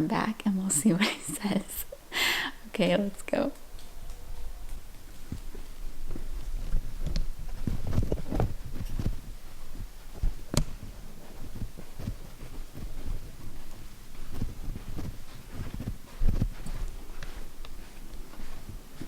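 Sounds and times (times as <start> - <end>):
footsteps on a staircase: 3.5 - 19.0.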